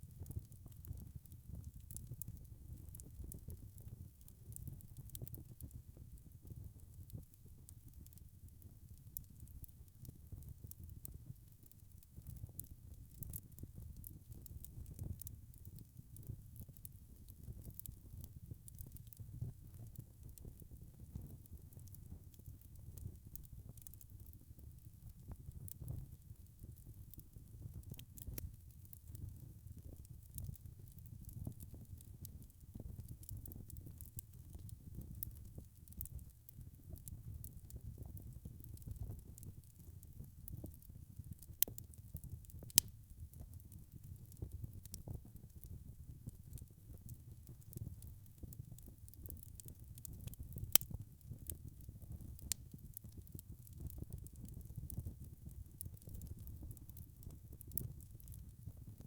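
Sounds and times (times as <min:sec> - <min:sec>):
low rumble of flames: 0:00.0 - 0:59.0
wood fire crackling: 0:00.0 - 0:59.0.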